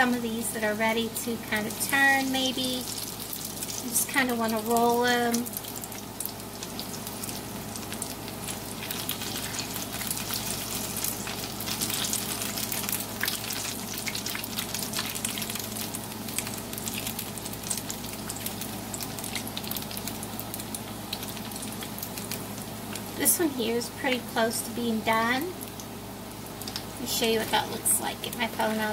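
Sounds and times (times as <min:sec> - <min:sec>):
deep-frying sizzle with crackling pops: 0:00.0 - 0:28.9.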